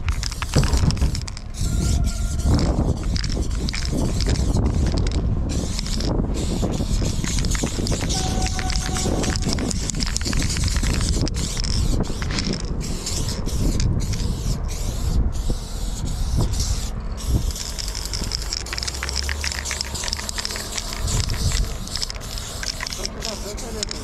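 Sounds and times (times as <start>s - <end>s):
spray paint can hissing: 0.0s - 24.0s.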